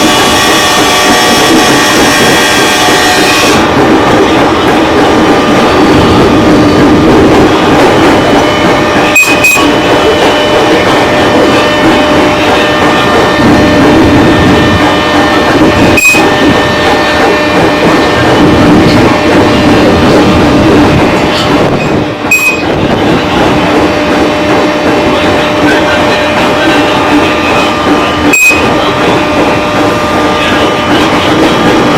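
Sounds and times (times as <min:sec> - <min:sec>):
train motor hum: 0:00.0 - 0:31.9
train rolling noise: 0:00.0 - 0:31.9.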